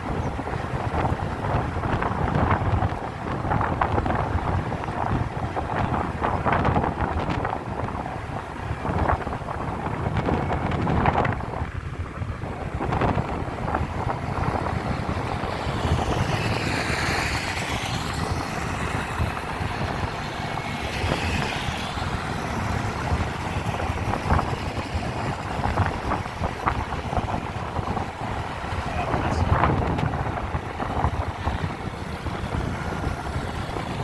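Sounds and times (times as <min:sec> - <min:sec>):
road noise: 0:00.0 - 0:34.0
truck engine rumbling: 0:00.0 - 0:34.0
wind on microphone: 0:00.0 - 0:34.0.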